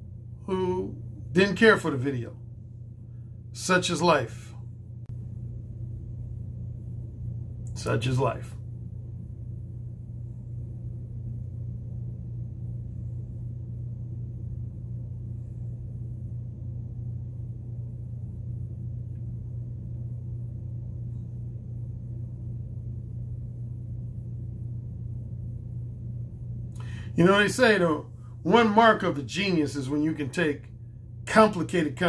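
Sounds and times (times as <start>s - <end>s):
low background hum: 0.0s - 32.0s.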